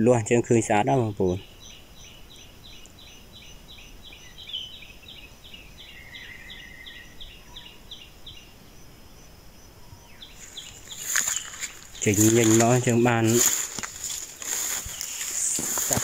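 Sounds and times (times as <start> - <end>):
faint steady high whine: 0.0 - 16.0.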